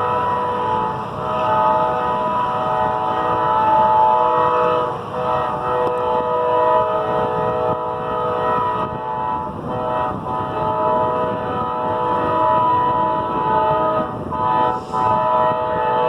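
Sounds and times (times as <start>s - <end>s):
train air horn blasts: 0.0s - 16.0s
train rumble: 0.0s - 16.0s.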